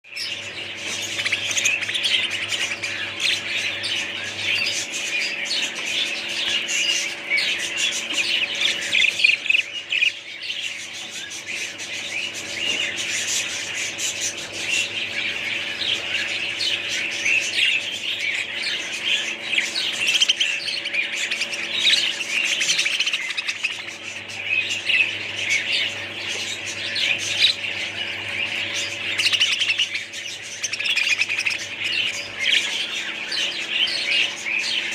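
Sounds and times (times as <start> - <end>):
parrots chirping: 0.0 - 34.9
faint steady hum: 0.1 - 34.9.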